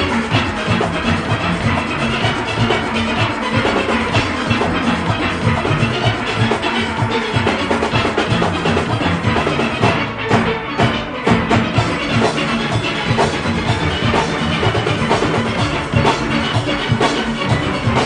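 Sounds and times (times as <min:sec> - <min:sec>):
driving drum beat: 0:00.0 - 0:18.0
steel band playing: 0:00.0 - 0:18.0.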